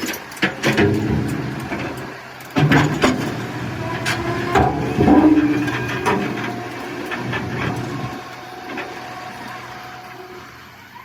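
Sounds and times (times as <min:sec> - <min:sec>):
machinery humming: 0:00.8 - 0:11.0.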